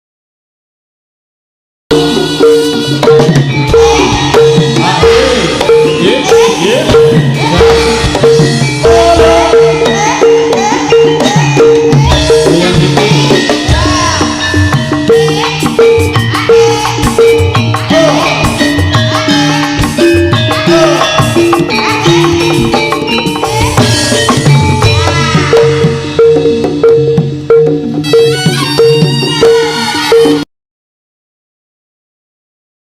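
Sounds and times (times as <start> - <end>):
bending melodic line: 1.9 - 30.4
live horse-dance music: 1.9 - 30.4
repeating pitched percussion note: 1.9 - 30.4
drums: 1.9 - 30.5.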